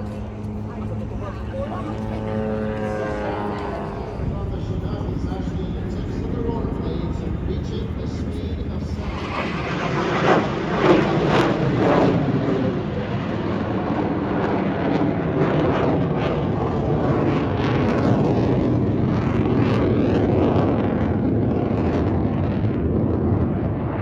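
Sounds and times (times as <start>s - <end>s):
aircraft flying overhead: 0.0s - 24.0s.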